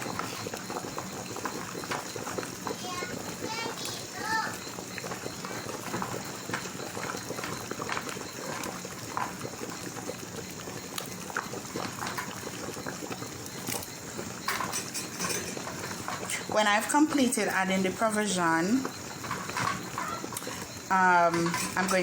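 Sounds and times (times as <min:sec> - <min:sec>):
soup bubbling in a pot: 0:00.0 - 0:22.0.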